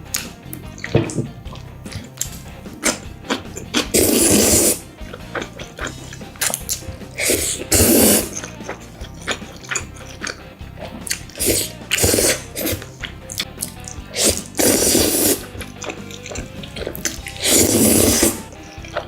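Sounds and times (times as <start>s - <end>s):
background music: 0.0s - 19.0s
spaghetti slurping: 0.0s - 19.0s
wet chewing smacks: 0.0s - 19.0s.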